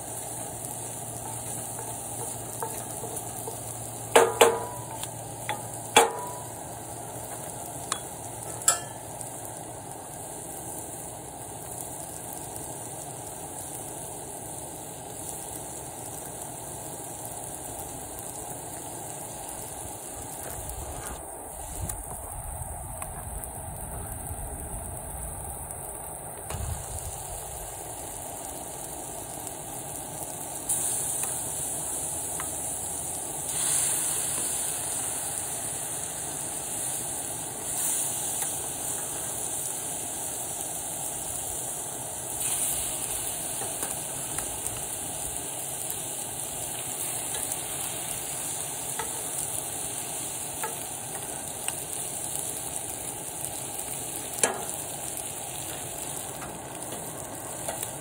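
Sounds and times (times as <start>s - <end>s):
pot of water boiling: 0.0s - 58.0s
seafood sizzling in a skillet: 0.0s - 58.0s.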